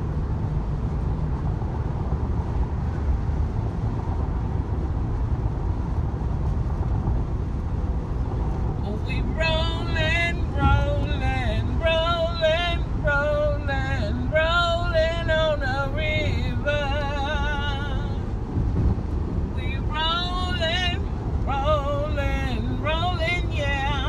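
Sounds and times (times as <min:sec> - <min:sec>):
car driving low rumble: 0:00.0 - 0:24.0.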